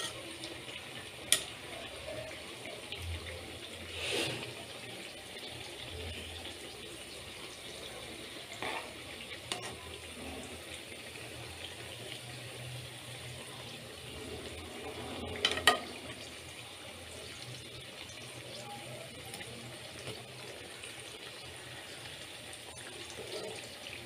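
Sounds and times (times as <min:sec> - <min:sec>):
fritters deep-frying in oil: 0:00.0 - 0:24.0.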